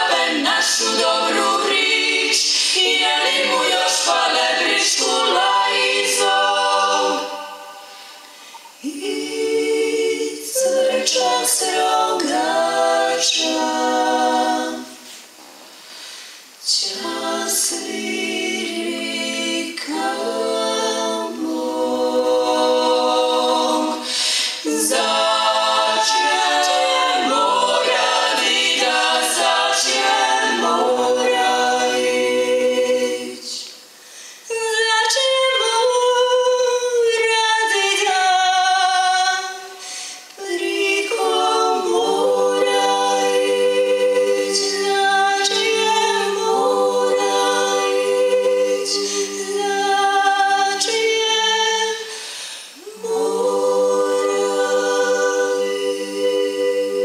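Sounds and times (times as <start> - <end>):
women singing a cappella harmony: 0.0 - 57.0.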